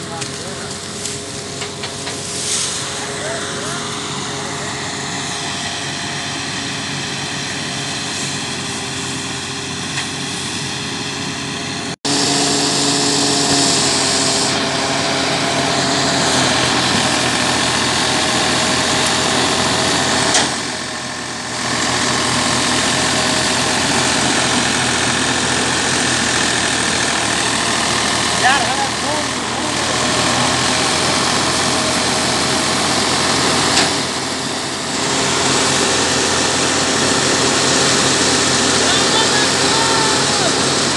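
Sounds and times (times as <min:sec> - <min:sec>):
thresher machine humming: 0:00.0 - 0:40.9.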